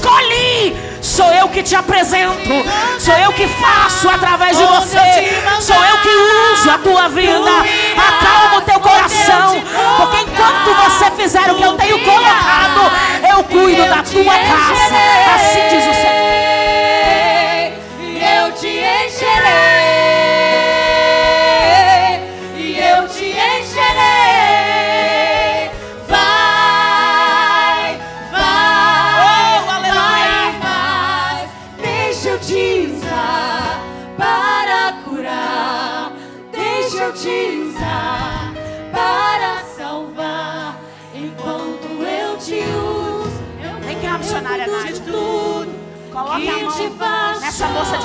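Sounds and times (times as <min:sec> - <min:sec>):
gospel singing: 0:00.0 - 0:48.0
instrumental backing: 0:00.0 - 0:48.0.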